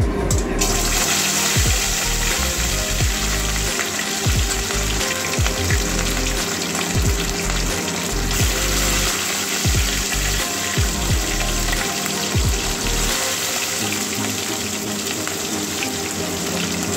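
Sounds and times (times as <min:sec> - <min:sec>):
fish frying in hot oil: 0:00.6 - 0:16.9.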